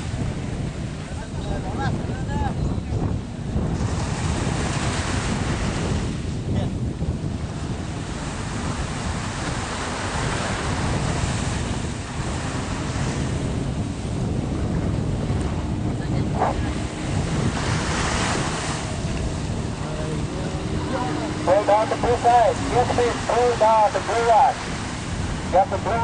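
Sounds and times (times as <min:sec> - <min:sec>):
sea surf: 0:00.0 - 0:26.0
wind buffeting microphone: 0:00.0 - 0:26.0.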